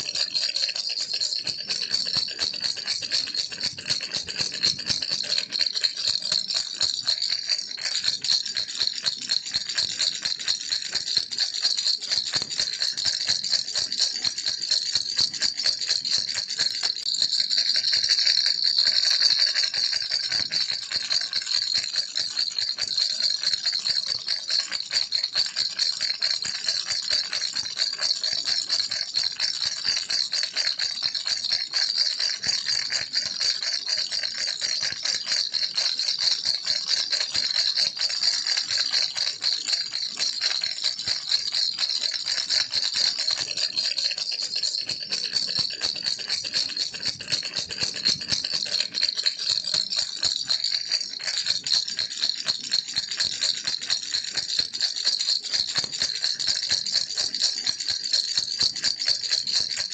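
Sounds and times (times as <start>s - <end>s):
baby rattle shaken: 0.0s - 54.8s, 55.5s - 57.3s.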